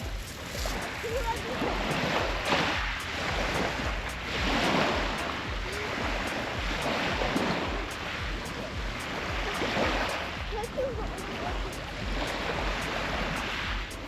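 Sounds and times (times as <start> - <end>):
waves washing onto shore: 0.0 - 14.0.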